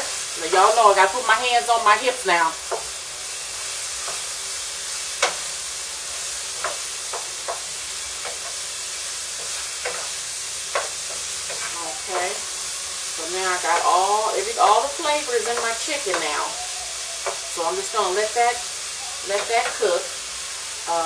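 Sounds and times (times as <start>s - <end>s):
chicken sizzling in a pot: 0.0s - 21.0s.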